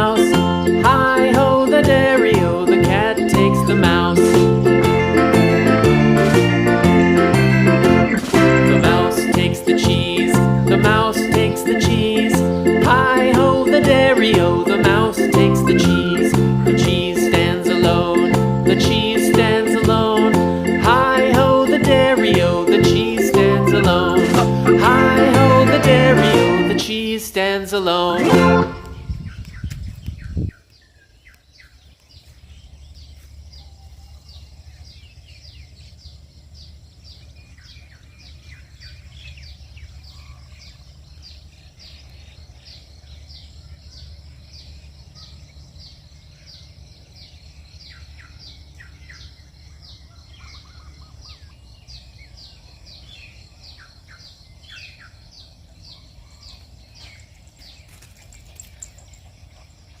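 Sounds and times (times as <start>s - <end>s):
low outdoor rumble: 0.0s - 30.6s, 31.8s - 60.0s
birds chirping: 0.0s - 60.0s.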